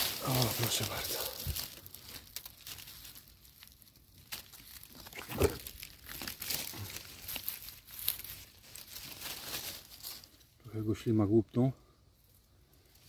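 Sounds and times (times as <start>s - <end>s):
dry leaves and twigs rustling: 0.0s - 11.4s, 12.0s - 13.0s.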